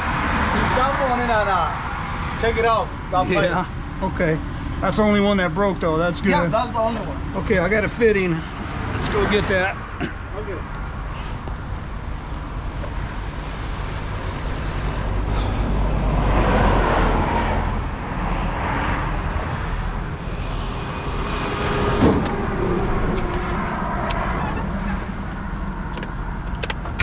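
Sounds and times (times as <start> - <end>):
highway traffic rushing past: 0.0 - 27.0.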